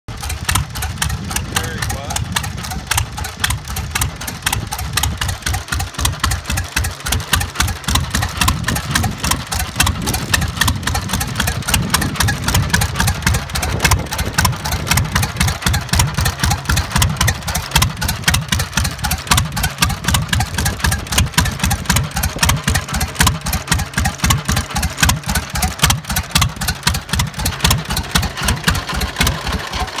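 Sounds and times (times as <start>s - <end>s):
tractor engine idling: 0.1s - 30.0s.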